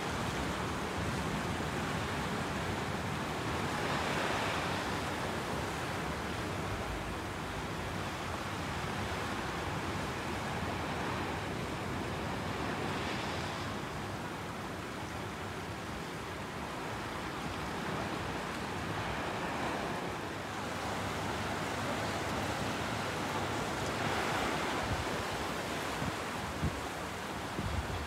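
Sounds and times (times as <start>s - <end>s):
sea waves washing on shore: 0.0s - 28.0s.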